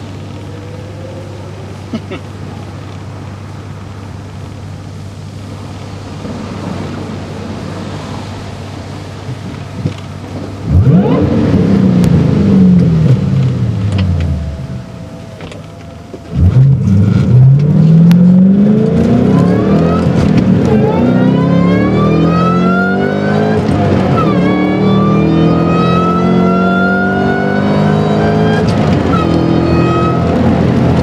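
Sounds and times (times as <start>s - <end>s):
supercharger whine: 0.0s - 31.0s
car engine accelerating hard: 5.5s - 31.0s.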